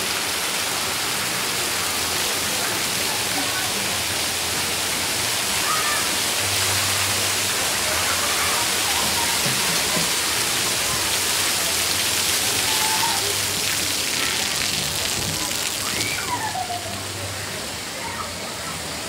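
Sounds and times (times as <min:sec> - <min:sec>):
water spraying onto wet deck: 0:00.0 - 0:19.0
faint voices: 0:00.8 - 0:19.0.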